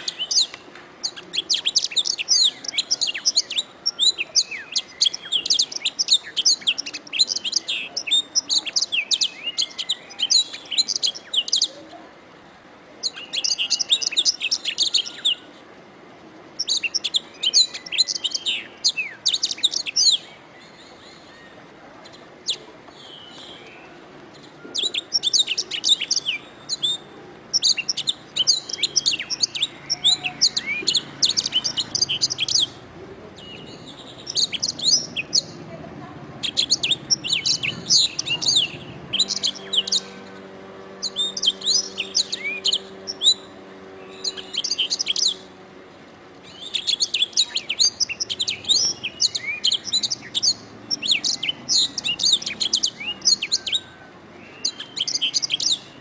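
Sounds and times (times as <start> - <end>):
canary chirps and trills: 0.0 - 12.0, 13.0 - 15.5, 16.5 - 56.0.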